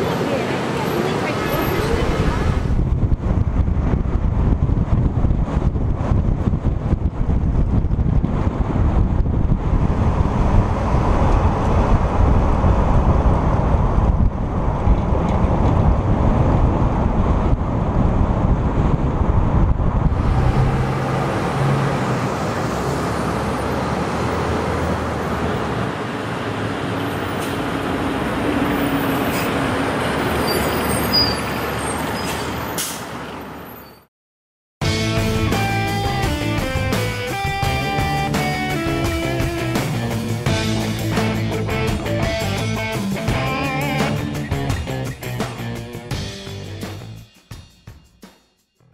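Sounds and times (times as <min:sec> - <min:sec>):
city buses passing: 0:00.0 - 0:34.1, 0:34.8 - 0:47.2
street traffic noise: 0:00.0 - 0:34.1, 0:34.8 - 0:47.4
vehicle road and wind rumble: 0:00.0 - 0:34.1, 0:34.8 - 0:47.3.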